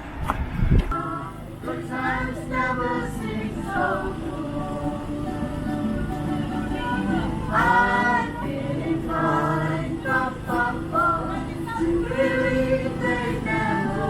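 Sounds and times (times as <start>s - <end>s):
music with singing voices: 0.9s - 14.0s.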